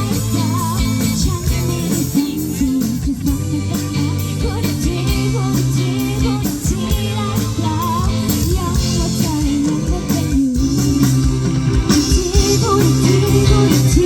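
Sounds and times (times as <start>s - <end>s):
live band playing pop song: 0.0s - 14.0s.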